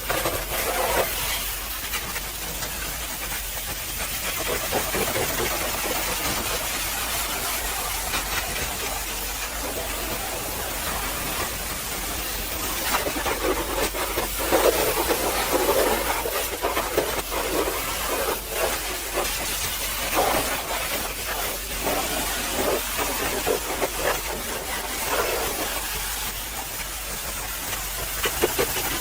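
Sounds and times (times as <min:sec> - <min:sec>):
pressure washer spraying: 0:00.0 - 0:29.0.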